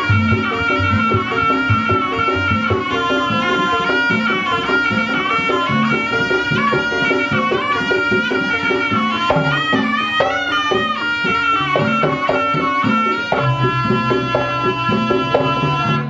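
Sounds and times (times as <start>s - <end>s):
drums: 0.0s - 16.0s
gamelan percussion: 0.0s - 16.0s
nasal reed pipe melody: 0.0s - 16.0s.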